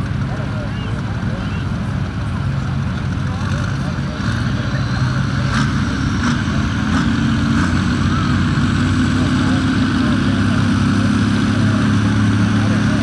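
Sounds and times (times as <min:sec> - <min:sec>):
tractor engine revving hard: 0:01.2 - 0:13.0.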